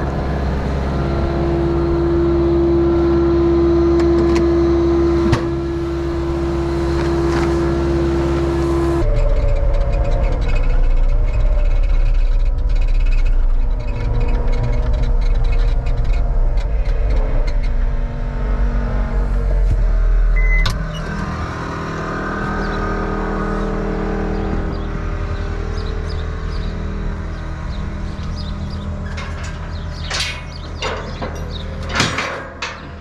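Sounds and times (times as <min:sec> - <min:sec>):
heavy equipment engine running: 0:00.0 - 0:33.0.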